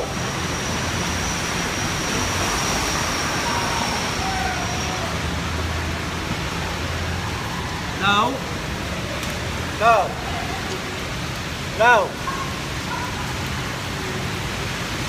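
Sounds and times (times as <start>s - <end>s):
heavy rain on street: 0.0s - 15.0s
low traffic hum: 0.0s - 15.0s.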